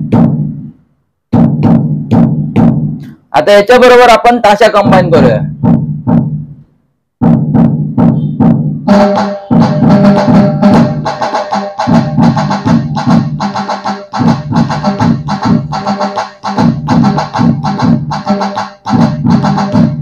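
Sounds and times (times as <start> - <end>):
low dhol drum strokes: 0.0 - 0.7, 1.3 - 3.0, 4.8 - 6.6, 7.2 - 20.0.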